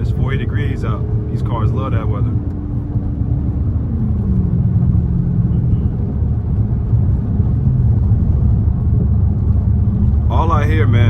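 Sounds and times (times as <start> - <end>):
car exhaust droning: 0.0 - 11.0.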